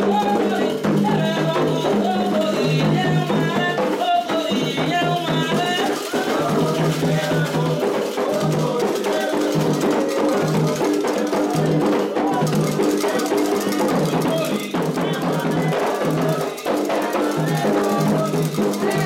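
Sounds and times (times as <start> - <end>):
hand drums: 0.0 - 19.0
voices singing a chant: 0.0 - 19.0.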